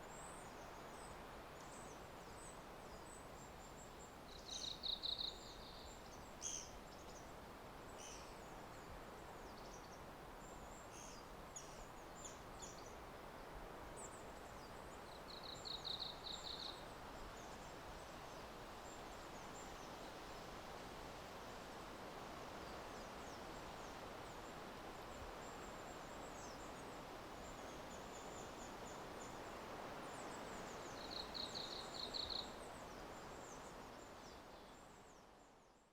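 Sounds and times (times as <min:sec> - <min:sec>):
soft forest background rush: 0:00.0 - 0:35.9.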